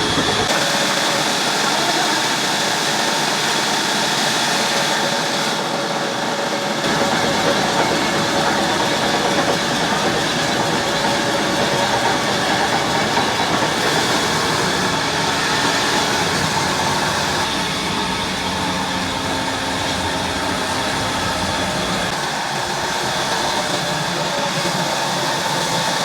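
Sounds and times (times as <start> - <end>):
sawmill saw running: 0.0 - 26.0.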